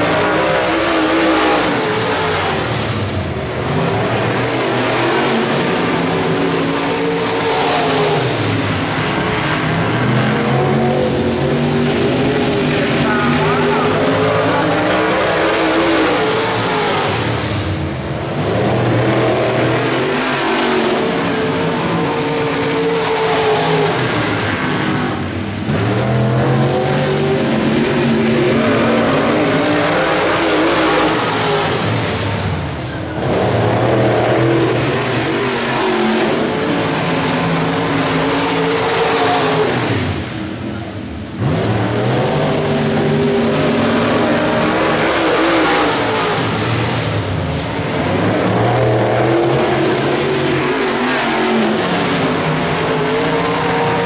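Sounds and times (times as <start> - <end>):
race car engines roaring: 0.0 - 54.0.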